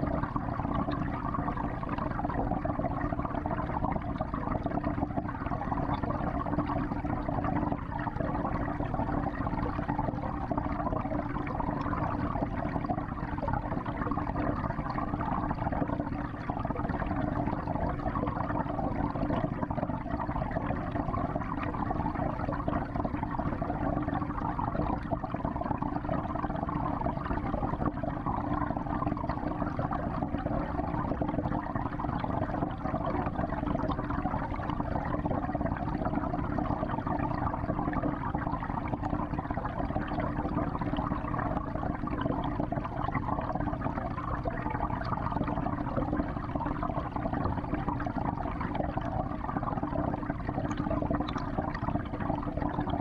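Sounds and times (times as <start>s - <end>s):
aquarium water circulating: 0.0s - 53.0s.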